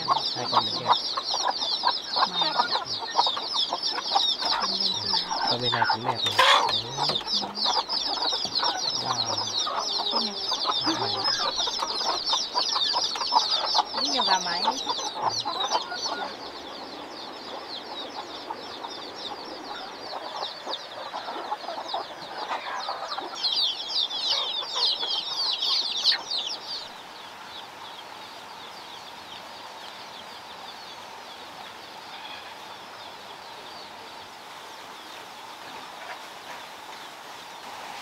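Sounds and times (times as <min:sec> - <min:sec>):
chickens clucking: 0:00.0 - 0:28.7, 0:31.5 - 0:38.0
faint outdoor hiss: 0:00.0 - 0:38.0.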